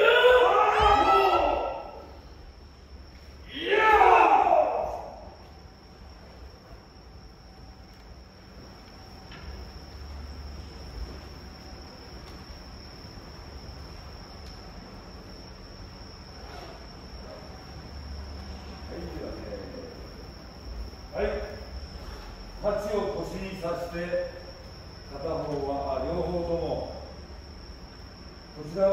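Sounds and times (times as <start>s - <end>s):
high-pitched insect trill: 0.0s - 28.9s.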